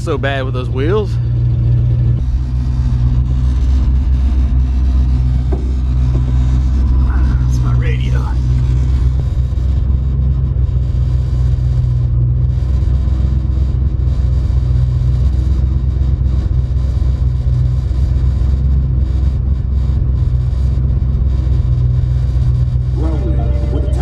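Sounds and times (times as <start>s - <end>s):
truck engine and road rumble: 0.0s - 24.0s.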